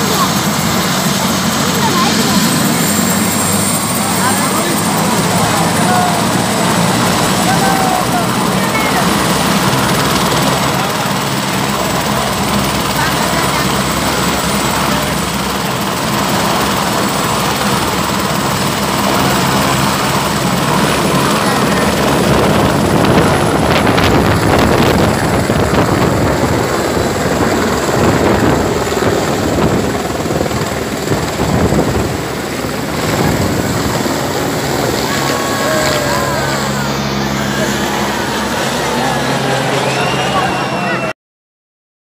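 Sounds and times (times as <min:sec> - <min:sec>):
helicopter rotor running: 0:00.0 - 0:41.1.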